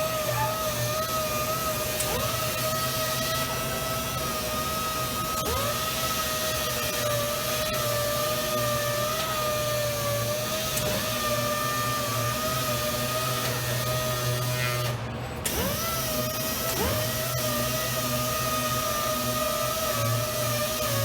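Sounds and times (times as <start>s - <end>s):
sander whining: 0.0s - 21.0s.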